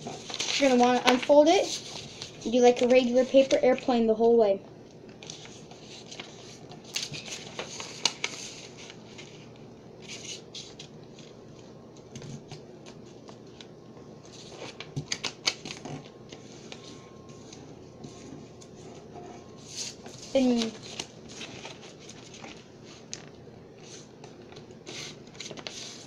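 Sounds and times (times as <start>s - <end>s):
paper rustling and creasing: 0.0s - 4.2s, 5.2s - 26.0s.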